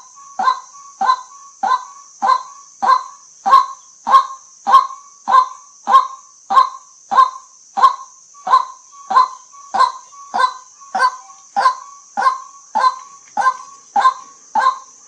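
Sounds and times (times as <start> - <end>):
constant high hiss: 0.0 - 15.0
waterhen kwak call: 0.0 - 15.0.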